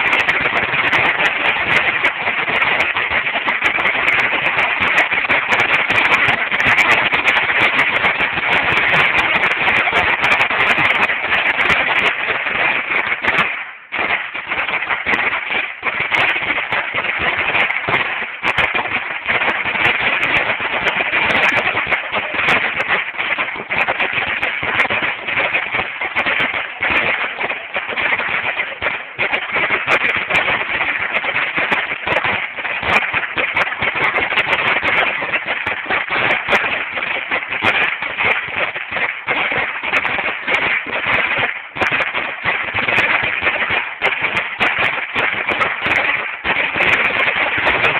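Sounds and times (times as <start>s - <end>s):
firecracker strip crackling: 0.0s - 47.9s.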